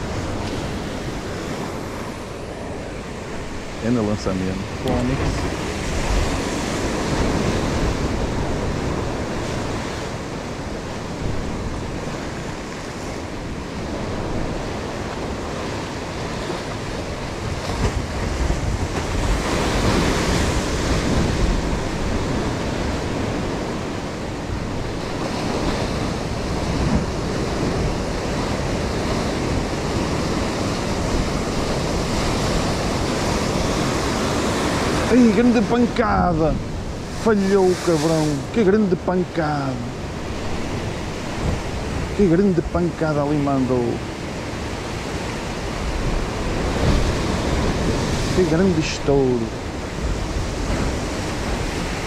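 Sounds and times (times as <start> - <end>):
wind on microphone: 0.0 - 43.0, 43.9 - 52.0
surf washing on rocky shore: 0.0 - 52.0.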